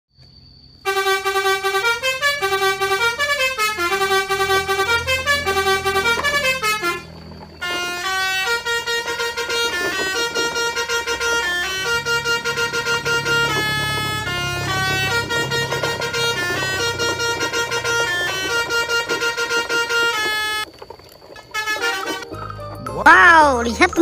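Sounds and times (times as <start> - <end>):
synthesized horn-like melody: 0.8 - 20.7, 21.4 - 23.0.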